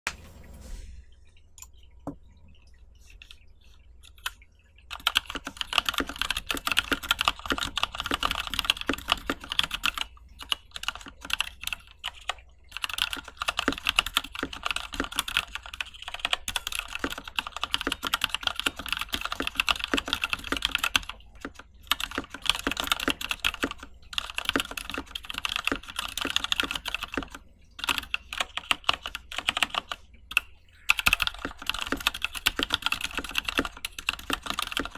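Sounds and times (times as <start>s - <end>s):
mechanical keyboard typing: 4.1s - 34.9s.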